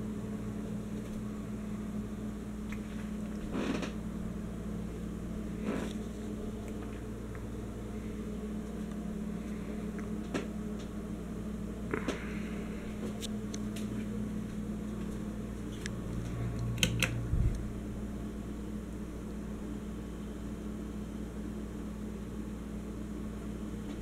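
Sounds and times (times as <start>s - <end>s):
ceiling fan motor hum: 0.0s - 24.0s.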